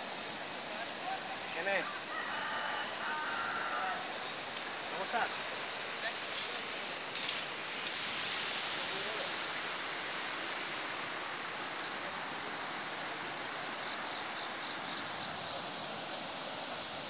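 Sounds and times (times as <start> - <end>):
river water rushing over rapids: 0.0 - 17.0.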